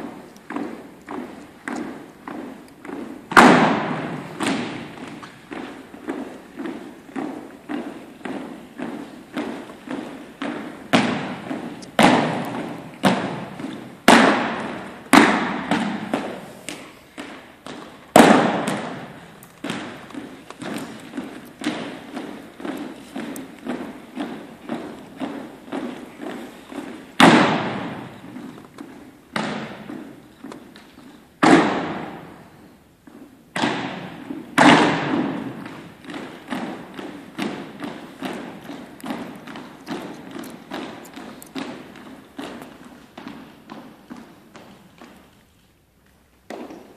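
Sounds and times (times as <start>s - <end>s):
loud foot stamps echoing: 0.0s - 45.4s, 46.4s - 46.9s
marching footsteps on wooden floor: 0.0s - 45.4s.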